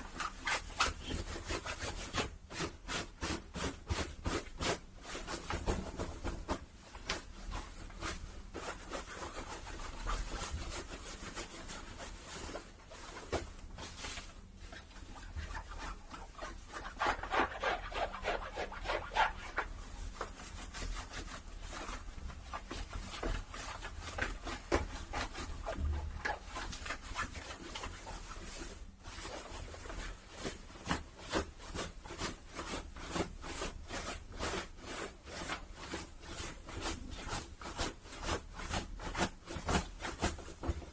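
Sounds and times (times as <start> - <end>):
cloth rubbing and scratching: 0.0 - 40.9.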